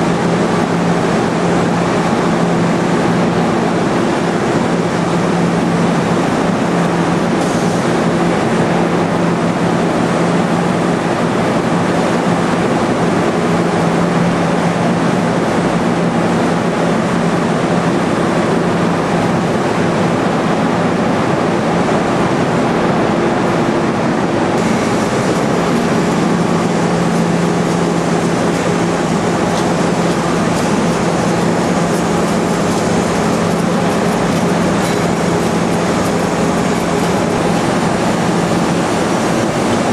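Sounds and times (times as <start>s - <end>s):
pump motors humming: 0.0s - 22.4s, 24.5s - 39.9s
loud machinery roar: 0.0s - 39.9s.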